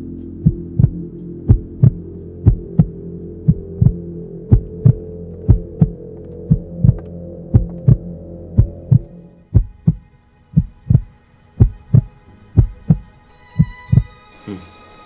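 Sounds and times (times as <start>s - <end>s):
low steady drone: 0.0s - 15.0s
heartbeat thumps: 0.4s - 14.1s.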